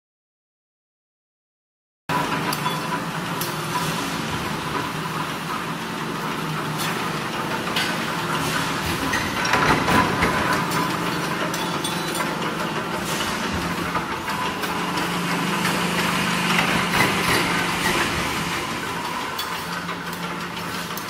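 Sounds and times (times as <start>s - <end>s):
punch press machine hum: 2.1s - 21.0s.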